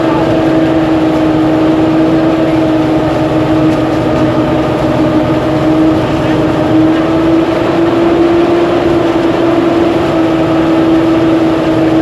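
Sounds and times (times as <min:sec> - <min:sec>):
threshing machine engine humming: 0:00.0 - 0:12.0.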